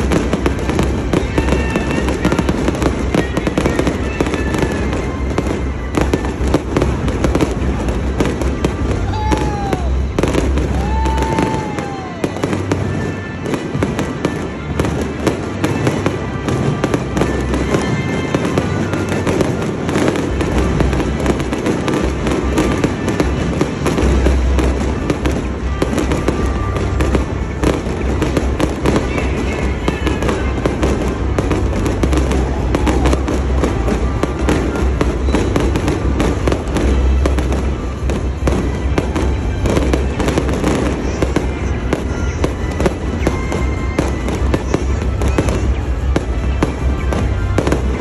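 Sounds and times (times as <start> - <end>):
fireworks crackling and popping: 0.0 - 48.0
music: 0.0 - 48.0.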